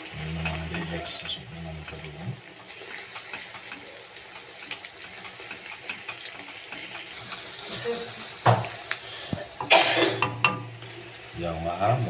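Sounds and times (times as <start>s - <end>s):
spatula scraping a wok: 0.0s - 10.4s
onions sizzling in hot oil: 0.0s - 12.0s.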